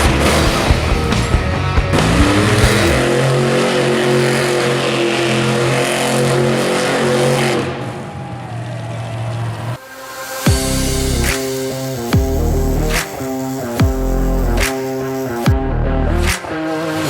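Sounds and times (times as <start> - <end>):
truck engine revving: 0.0 - 9.8, 10.5 - 17.0.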